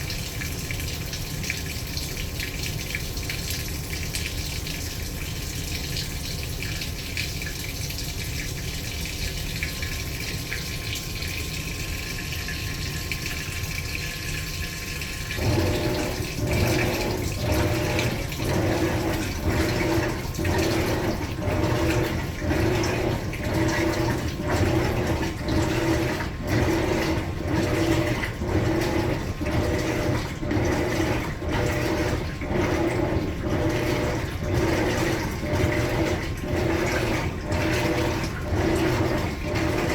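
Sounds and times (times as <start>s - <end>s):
washer humming swish: 0.0s - 39.9s
water pouring into tub: 0.0s - 39.9s.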